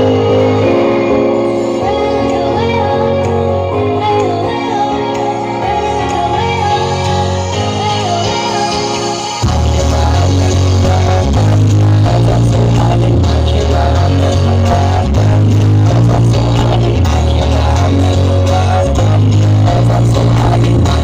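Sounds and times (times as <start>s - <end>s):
loud music with droning bass: 0.0s - 21.0s.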